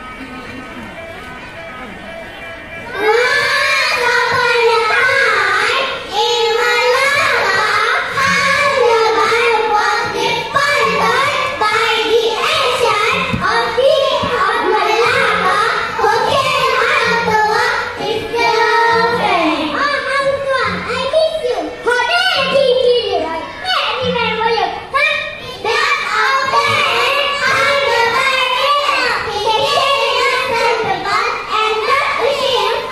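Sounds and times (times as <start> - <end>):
backing music: 0.0 - 32.9
children singing in unison: 2.8 - 22.6, 25.2 - 32.9.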